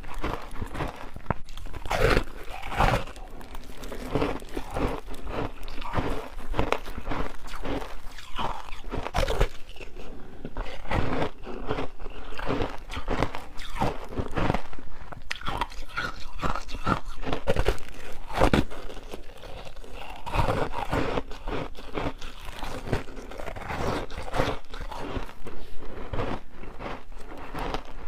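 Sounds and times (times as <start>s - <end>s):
crunching and chewing ice: 0.0s - 28.0s.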